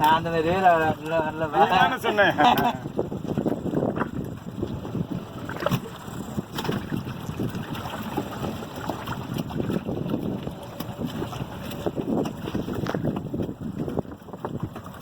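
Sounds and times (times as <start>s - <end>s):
water lapping against boat: 0.0s - 15.0s
wind on microphone: 0.0s - 15.0s.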